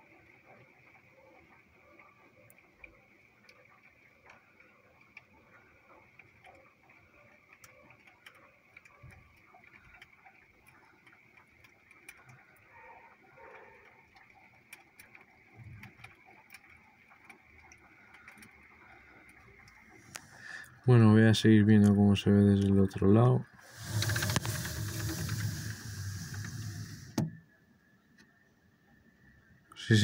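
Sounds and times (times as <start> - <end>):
raindrops ticking: 0.0 - 27.2
low steady hiss: 0.0 - 30.0.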